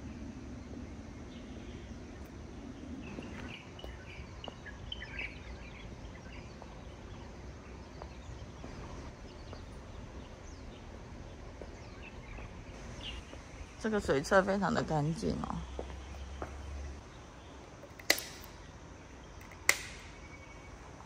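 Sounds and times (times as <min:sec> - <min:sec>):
birds chirping: 0:00.0 - 0:21.0
low outdoor background rumble: 0:00.0 - 0:21.0.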